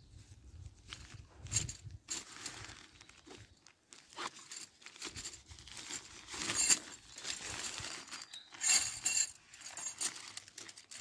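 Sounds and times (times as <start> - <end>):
nylon fabric rustling: 0.8 - 11.0
metal tent pegs clinking: 1.4 - 11.0.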